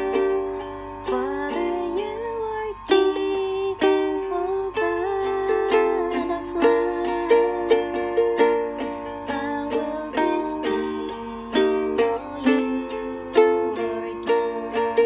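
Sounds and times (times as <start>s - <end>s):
ukulele strummed chords: 0.0s - 15.0s.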